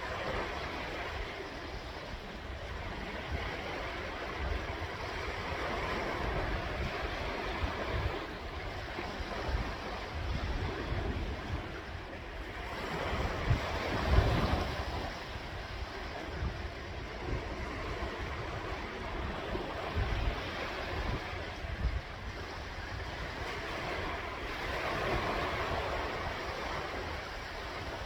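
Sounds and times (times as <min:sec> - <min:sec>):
sea waves washing: 0:00.0 - 0:28.0
wind gusting on microphone: 0:00.0 - 0:28.0.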